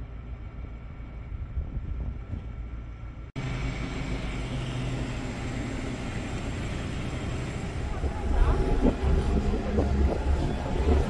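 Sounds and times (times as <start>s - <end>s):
bus engine hum: 0.0s - 11.0s
steady low rumble: 0.0s - 11.0s.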